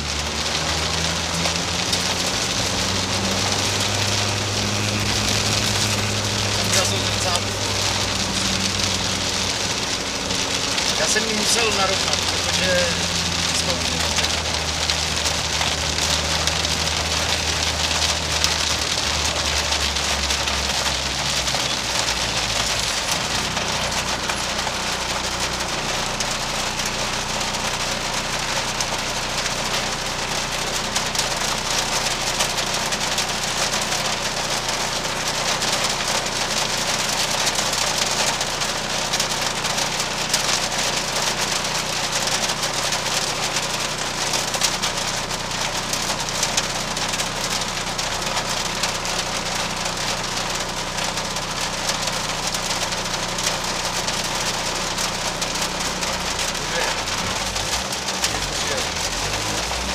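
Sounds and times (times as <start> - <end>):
constant hiss: 0.0 - 59.9
diesel engine running at low revs: 0.0 - 59.9.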